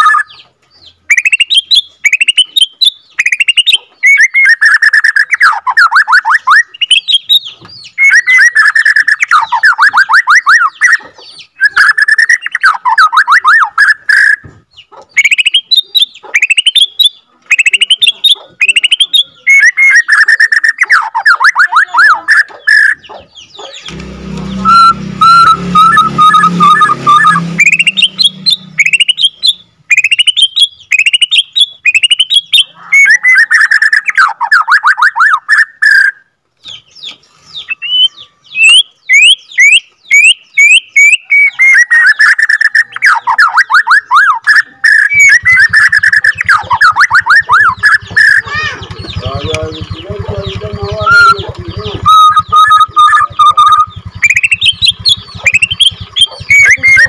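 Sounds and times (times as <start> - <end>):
bird singing rolling song: 0.0 - 57.0.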